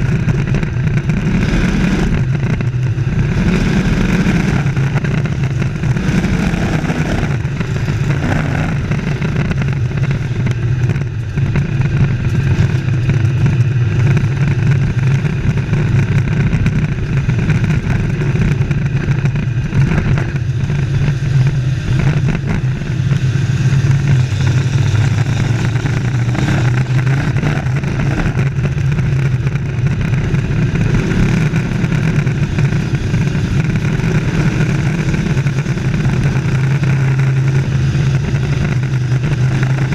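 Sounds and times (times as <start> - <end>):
race truck engines droning: 0.0 - 39.9.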